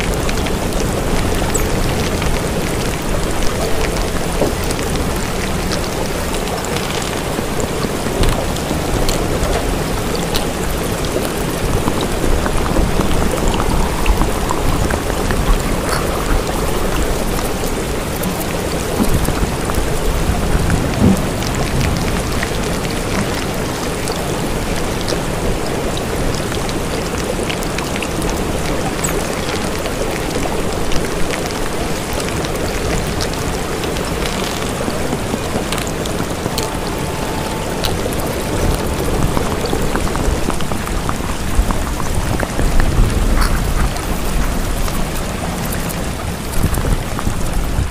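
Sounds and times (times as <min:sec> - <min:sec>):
rain hissing: 0:00.0 - 0:47.9
raindrop ticks: 0:00.0 - 0:47.9.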